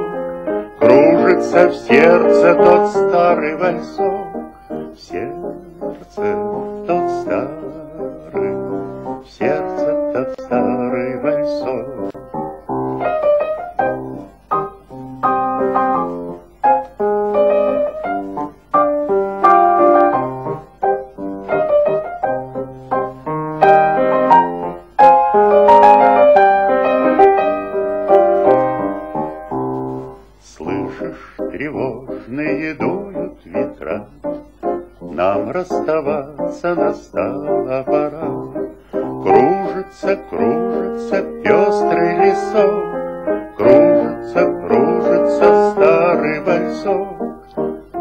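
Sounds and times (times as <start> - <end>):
slow piano waltz: 0.0 - 48.0.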